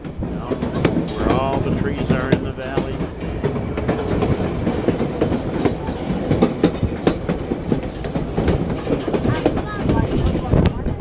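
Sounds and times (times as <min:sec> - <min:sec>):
train rumbling: 0:00.0 - 0:11.0
wheels clattering on rails: 0:00.0 - 0:11.0.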